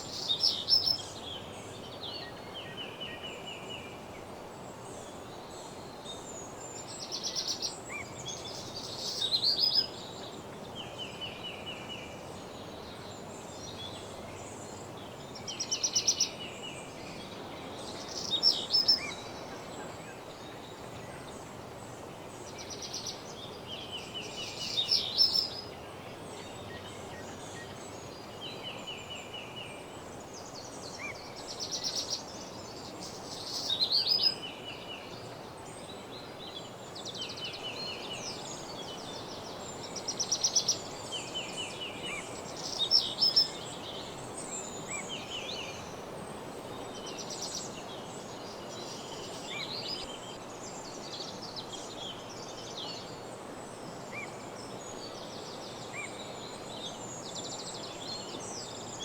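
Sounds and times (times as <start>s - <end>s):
songbirds singing and trilling: 0.0s - 59.0s
steady background hiss: 0.0s - 59.0s.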